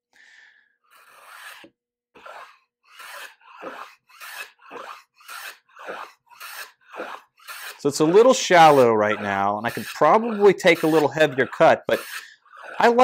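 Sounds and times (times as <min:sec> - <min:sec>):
hand plane shaving wood: 0:00.9 - 0:13.0.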